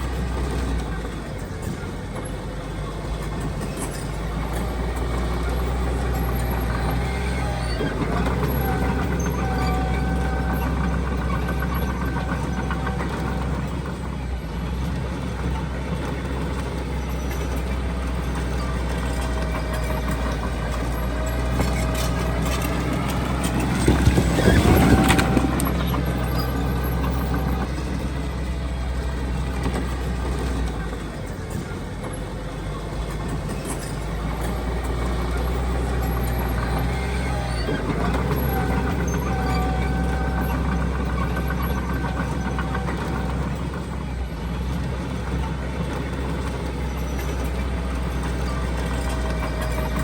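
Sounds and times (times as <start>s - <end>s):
diesel engines droning: 0.0s - 50.0s.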